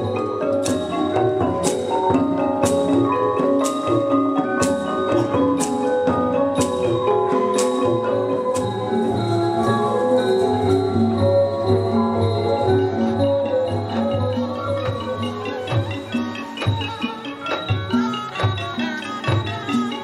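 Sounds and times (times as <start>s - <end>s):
xylophone and gong melody: 0.0s - 20.0s.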